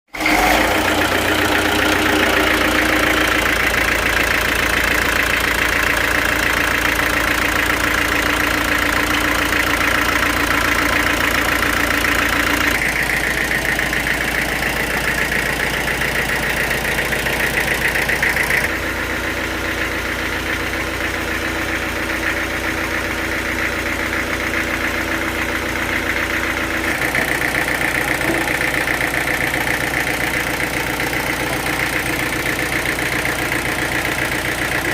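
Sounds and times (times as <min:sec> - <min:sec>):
sawmill machinery drone: 0:00.2 - 0:34.9.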